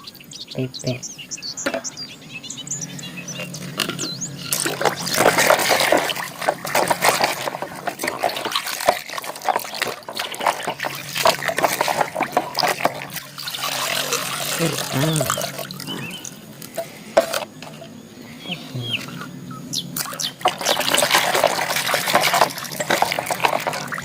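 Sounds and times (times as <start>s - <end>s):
water splashing and sloshing: 2.6s - 18.0s, 18.8s - 24.0s.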